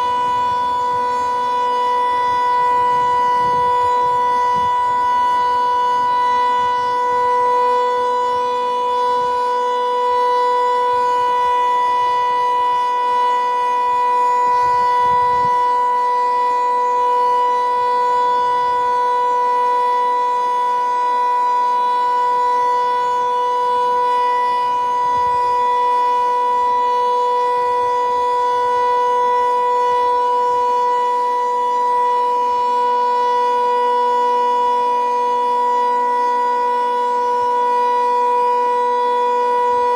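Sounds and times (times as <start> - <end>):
steady loud siren tone: 0.0 - 39.9.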